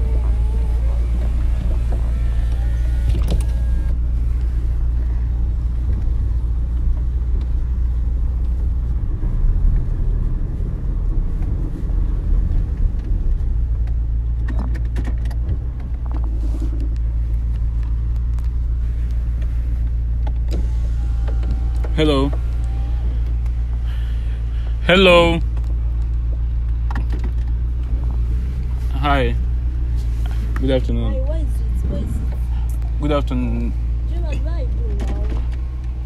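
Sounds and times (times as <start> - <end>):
low engine hum: 0.0 - 36.0.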